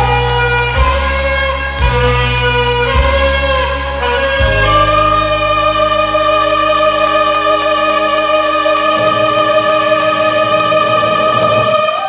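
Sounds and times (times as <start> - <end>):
alto saxophone long note: 0.0 - 12.0
instrumental accompaniment: 0.0 - 12.0.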